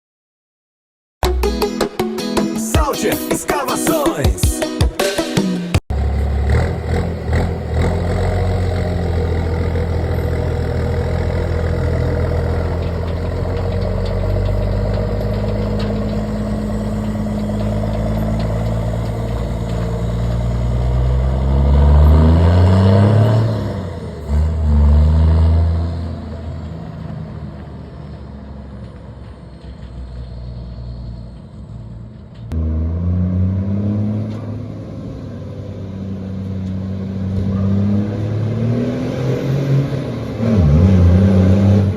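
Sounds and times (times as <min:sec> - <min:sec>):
diesel truck engine revving: 0:05.9 - 0:41.9.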